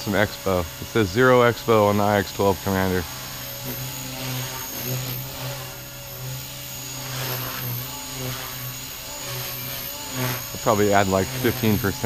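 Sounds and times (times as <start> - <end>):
high motor whine: 0.0 - 12.0
rotor buzz: 0.0 - 12.0.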